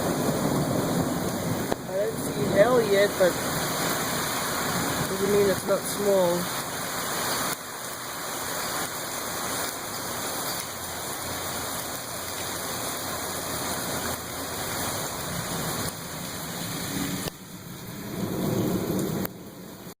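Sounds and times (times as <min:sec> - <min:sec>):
thunder rumbling: 0:00.0 - 0:10.3, 0:11.0 - 0:20.0
gusting wind: 0:00.0 - 0:20.0
heavy rain pouring: 0:00.0 - 0:20.0.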